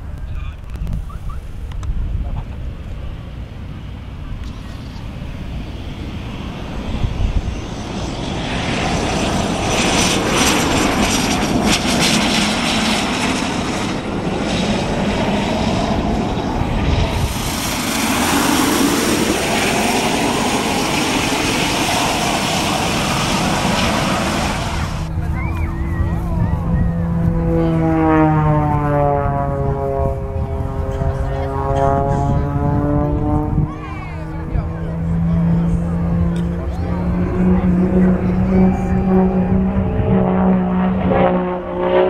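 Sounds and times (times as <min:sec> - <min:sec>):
turboprop airplane passing: 0:00.0 - 0:42.0.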